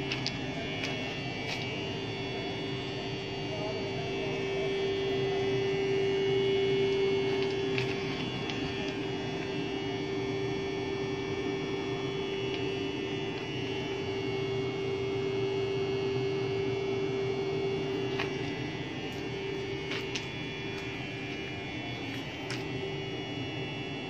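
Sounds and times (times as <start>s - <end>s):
electric locomotive hum: 0.0s - 24.0s
high electrical whine: 0.0s - 24.0s.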